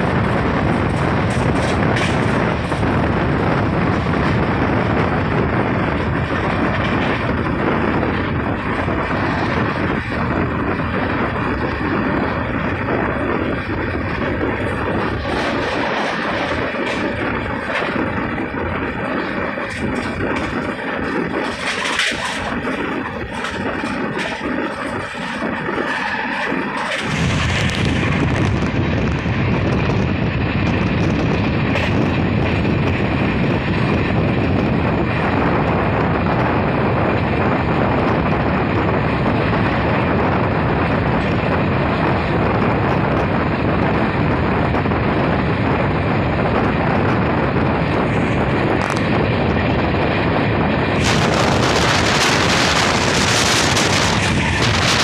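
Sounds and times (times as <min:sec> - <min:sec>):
wheels rushing on rails: 0:00.0 - 0:55.0.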